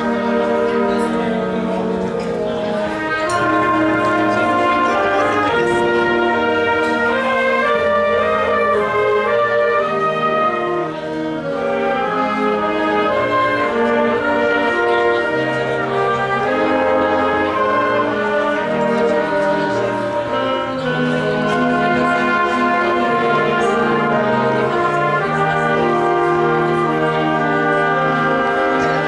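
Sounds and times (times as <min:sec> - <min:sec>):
wind band playing chords: 0:00.0 - 0:29.0.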